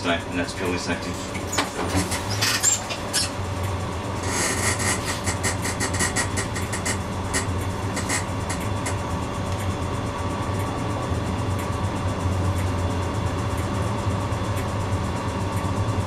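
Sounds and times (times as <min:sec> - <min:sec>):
tram running with low hum: 0:00.0 - 0:16.0.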